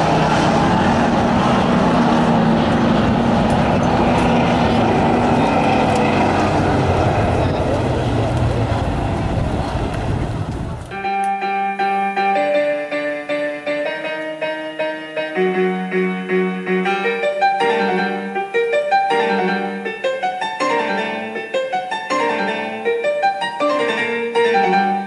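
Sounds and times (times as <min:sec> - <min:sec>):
piano music: 0:00.0 - 0:09.2, 0:10.9 - 0:25.0.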